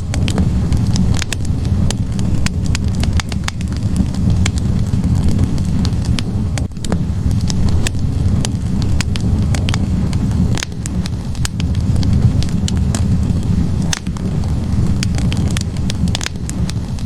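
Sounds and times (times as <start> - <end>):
fire roaring: 0.0 - 17.0
logs crackling and popping: 0.0 - 17.0.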